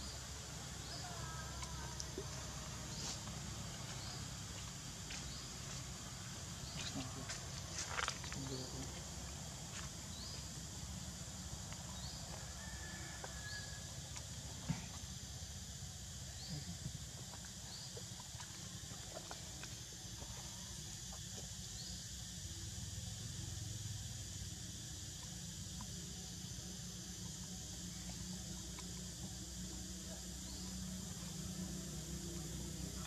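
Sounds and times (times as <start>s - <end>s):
steady high hiss: 0.0s - 33.0s.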